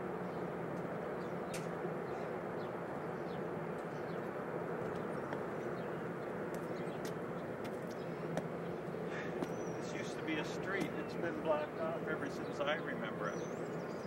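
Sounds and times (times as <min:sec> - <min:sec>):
outdoor background hum and hiss: 0:00.0 - 0:14.0.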